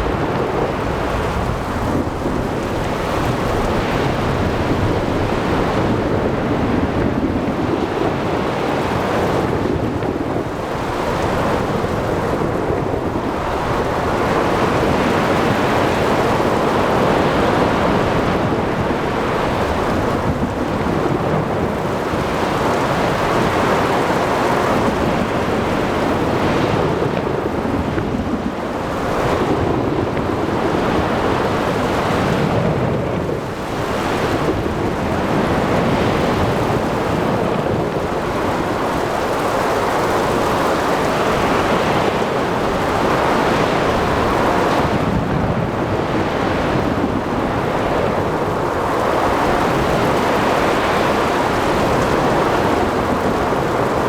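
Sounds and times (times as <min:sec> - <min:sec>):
waves washing in: 0:00.0 - 0:54.0
wind: 0:00.0 - 0:54.0.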